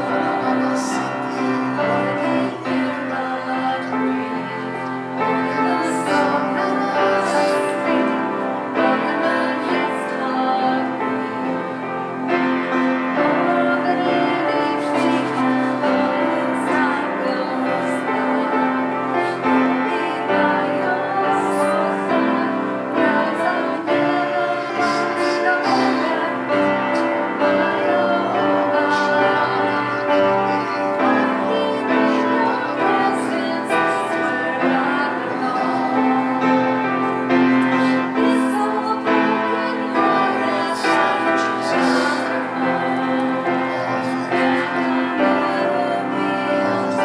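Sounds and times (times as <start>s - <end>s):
person singing: 0.0s - 47.0s
piano accompaniment: 0.0s - 47.0s.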